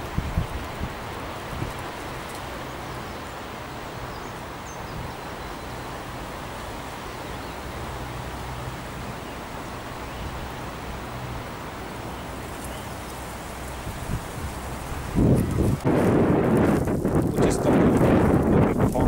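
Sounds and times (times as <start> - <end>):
wind buffeting microphone: 0.0 - 6.2, 8.3 - 19.0.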